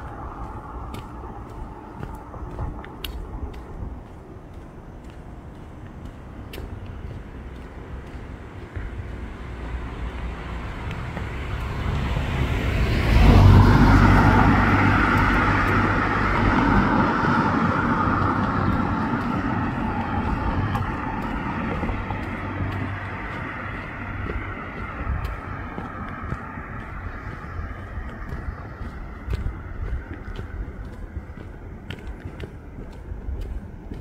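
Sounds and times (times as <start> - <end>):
motor vehicle passing: 0.0 - 34.0.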